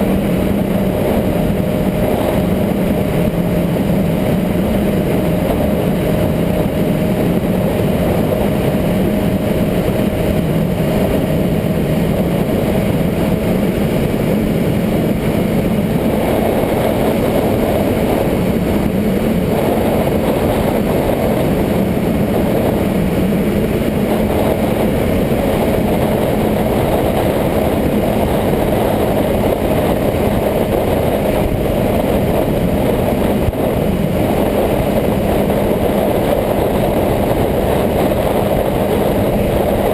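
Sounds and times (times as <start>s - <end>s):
dense steady noise: 0.0s - 39.9s
motorcycle engine running: 0.0s - 39.9s.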